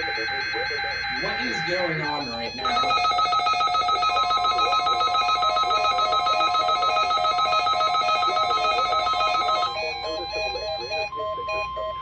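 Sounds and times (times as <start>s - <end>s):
pulsing ringing alarm: 0.0s - 12.0s
steady warning tone: 0.0s - 12.0s.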